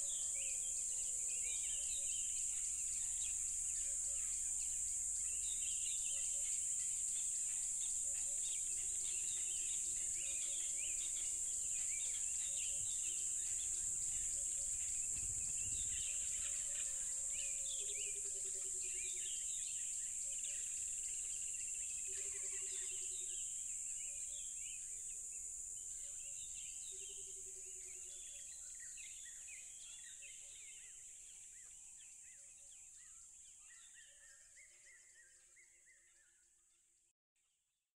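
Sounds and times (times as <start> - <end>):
crickets chirping: 0.0 - 34.4.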